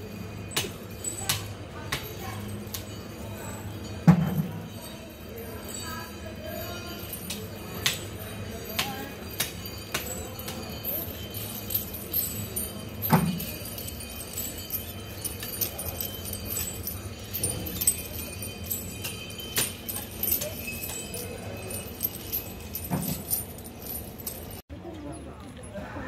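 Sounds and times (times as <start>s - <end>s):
chains clinking and jangling: 0.0s - 25.6s.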